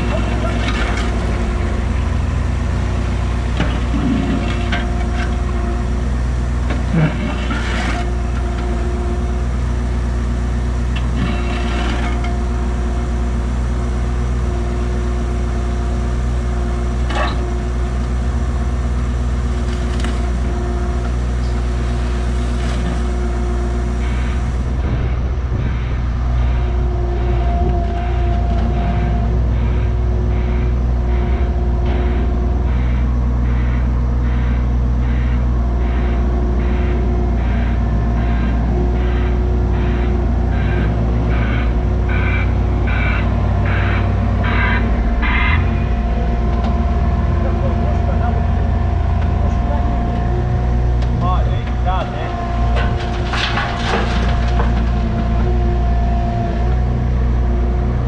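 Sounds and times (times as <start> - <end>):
excavator diesel engine running: 0.0 - 58.0
hydraulic whine: 0.0 - 58.0.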